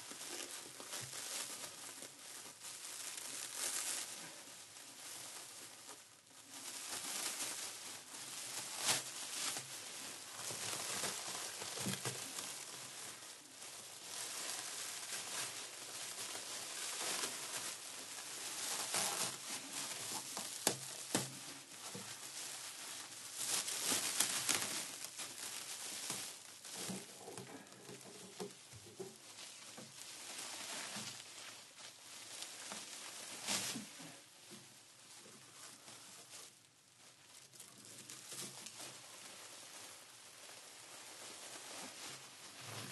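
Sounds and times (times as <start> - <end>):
plastic sheeting crinkling: 0.0 - 42.9.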